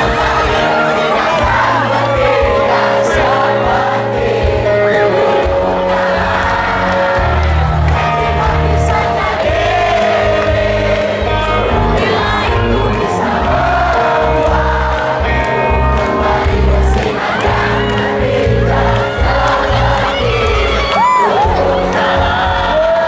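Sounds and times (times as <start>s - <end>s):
audience singing along: 0.0s - 23.0s
live rock band playing a ballad: 0.0s - 23.0s.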